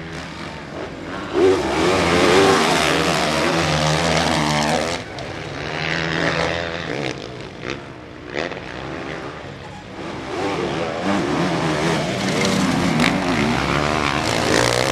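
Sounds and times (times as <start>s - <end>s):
motorcycle engines revving: 0.0s - 14.9s.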